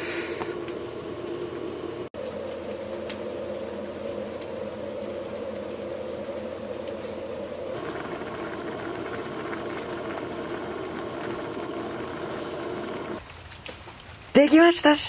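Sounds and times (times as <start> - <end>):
gas stove burner running: 0.0 - 13.2
water boiling: 0.0 - 13.4.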